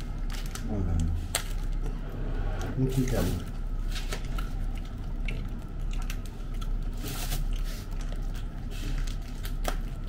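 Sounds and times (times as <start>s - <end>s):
chicken torn and chewed: 0.0s - 2.0s, 2.6s - 10.0s
low background hum: 0.0s - 10.0s.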